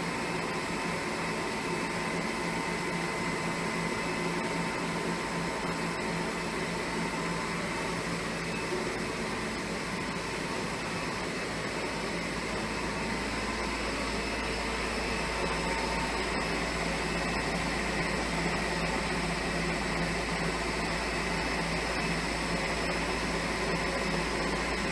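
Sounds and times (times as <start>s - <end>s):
machine hum with high whine: 0.0s - 24.9s.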